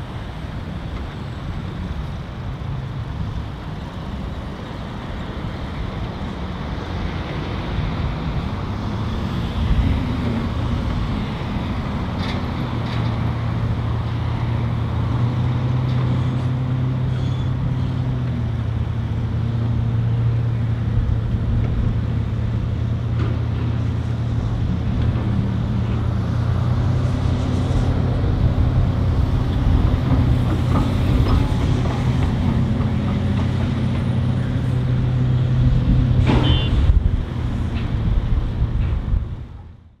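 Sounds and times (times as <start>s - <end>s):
heavy diesel machinery droning: 0.0s - 40.0s.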